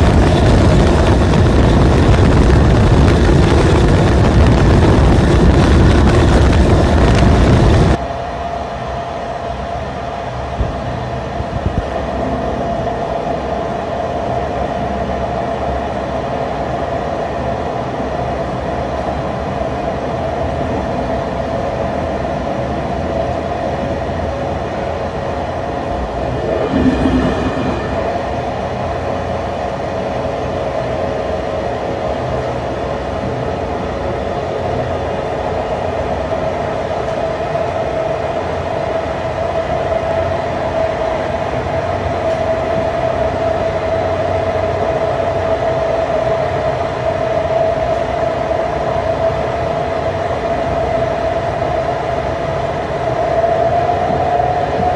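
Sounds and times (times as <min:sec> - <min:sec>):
train running drone: 0:00.0 - 0:54.9.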